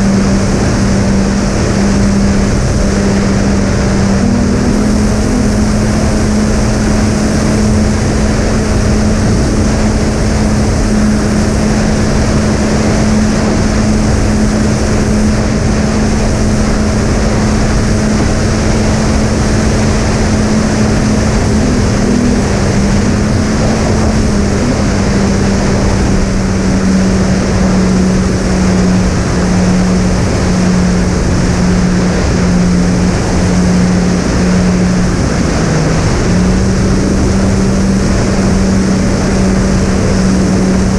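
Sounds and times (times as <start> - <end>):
airflow rushing: 0.0 - 40.9.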